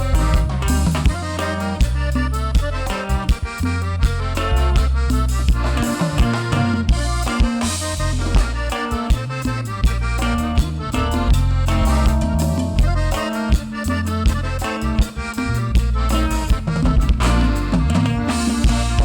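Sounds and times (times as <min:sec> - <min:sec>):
cumbia band playing: 0:00.0 - 0:19.0.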